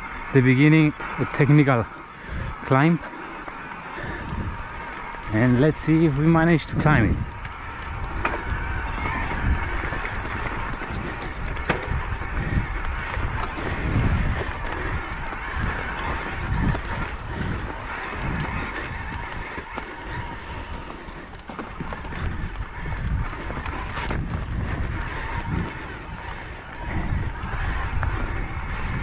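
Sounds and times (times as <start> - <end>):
bike tyres crunching over stones: 0.0 - 29.0
wind buffeting microphone: 0.0 - 29.0.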